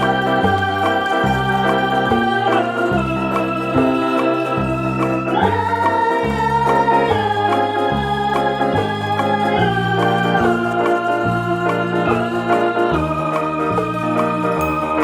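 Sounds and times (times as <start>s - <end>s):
electronic organ music: 0.0s - 15.0s.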